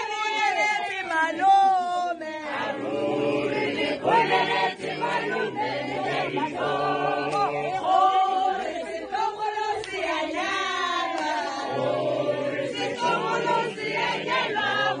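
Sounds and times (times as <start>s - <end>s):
crowd singing together: 0.0s - 15.0s.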